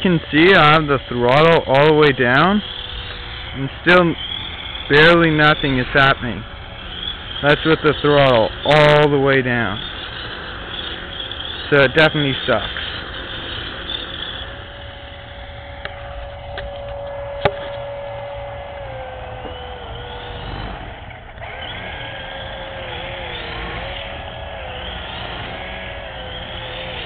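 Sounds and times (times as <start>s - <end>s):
rc helicopter motor whining: 0.0s - 27.0s.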